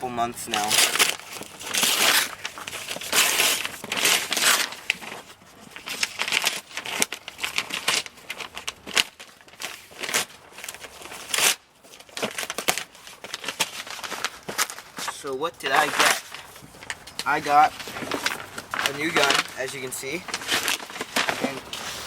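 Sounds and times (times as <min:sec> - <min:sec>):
paper packaging tearing and crumpling: 0:00.2 - 0:22.0.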